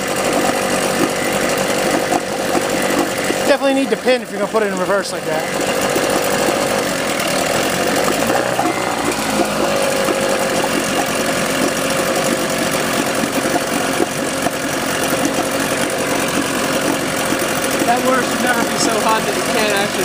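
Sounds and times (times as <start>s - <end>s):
outboard motor running: 0.0s - 20.0s
propeller churning water: 0.0s - 20.0s.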